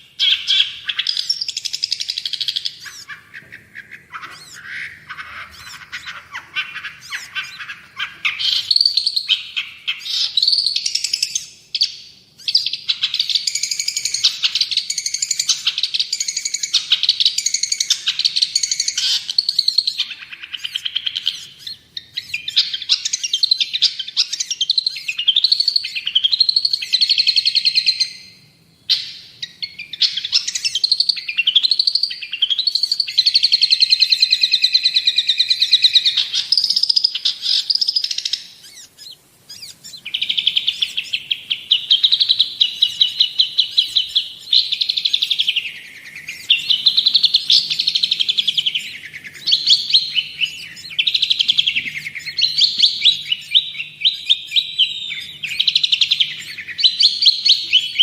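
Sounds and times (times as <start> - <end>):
bird singing chattering song: 0.0 - 58.0.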